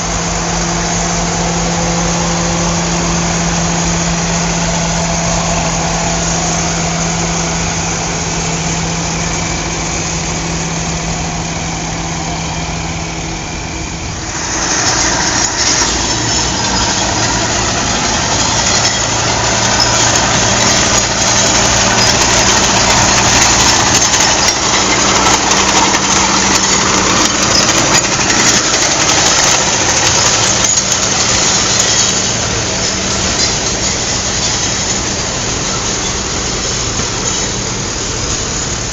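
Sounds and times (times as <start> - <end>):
loud engine: 0.0 - 38.9
tractor engines running: 0.0 - 38.9.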